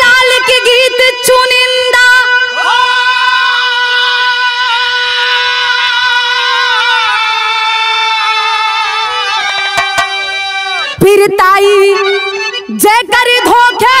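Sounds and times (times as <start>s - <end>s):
sustained harmonium: 0.0s - 14.0s.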